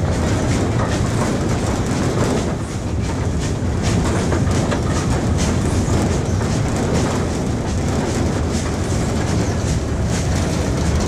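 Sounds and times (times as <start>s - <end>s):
faint regular locomotive beat: 0.0s - 11.0s
steam locomotive running gear rattle: 0.0s - 11.0s.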